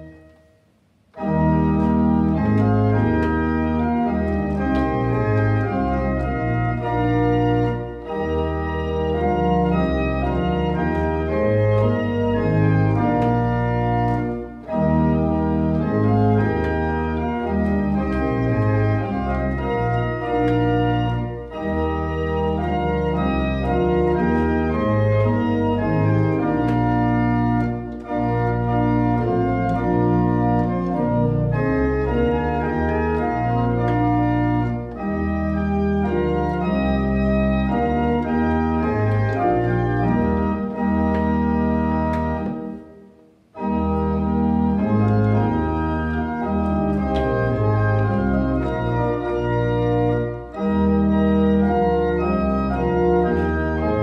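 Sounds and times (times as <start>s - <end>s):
pipe organ chords: 0.0s - 54.0s.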